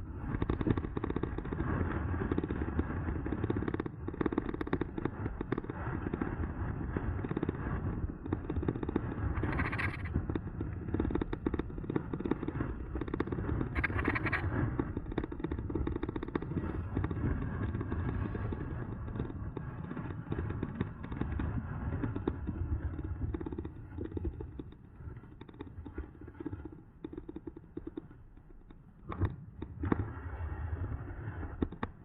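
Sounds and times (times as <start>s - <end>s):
bike rattling over rough ground: 0.0s - 30.4s
wind and tyre rumble: 0.0s - 32.0s.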